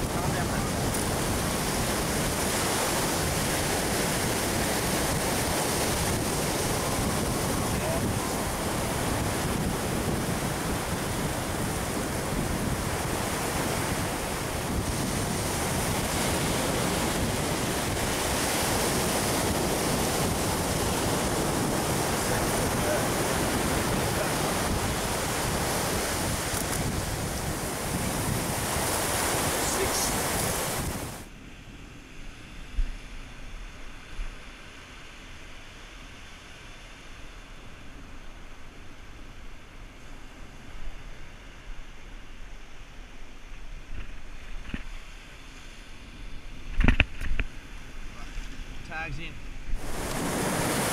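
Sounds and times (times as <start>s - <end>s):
wind buffeting microphone: 0.0s - 34.5s, 43.8s - 50.9s
surf breaking on beach: 0.0s - 35.2s, 43.8s - 50.9s.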